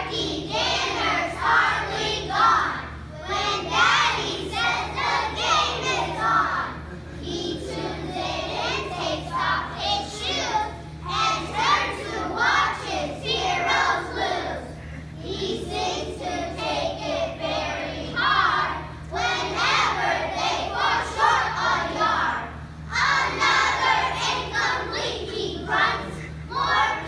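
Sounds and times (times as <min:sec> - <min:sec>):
steady low hum: 0:00.0 - 0:27.0
young children singing: 0:00.0 - 0:27.0.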